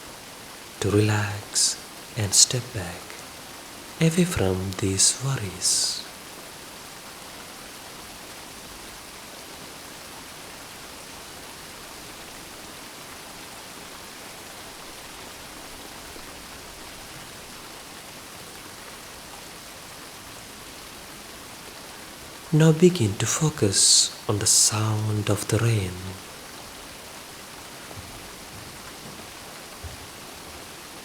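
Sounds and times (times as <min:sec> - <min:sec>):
gentle rain falling: 0:00.0 - 0:31.0.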